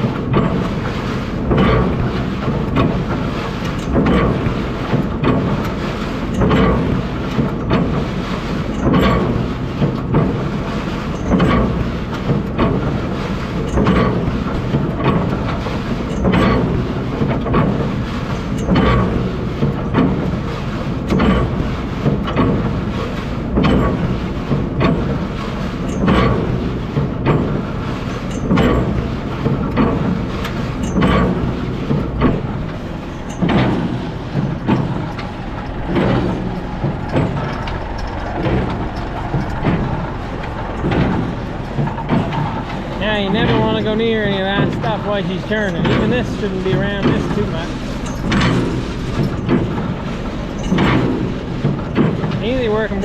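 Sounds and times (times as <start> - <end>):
baler clattering: 0.0 - 53.0
tractor engine drone: 0.0 - 53.0
loud regular clank of plunger: 0.1 - 20.4, 21.0 - 53.0.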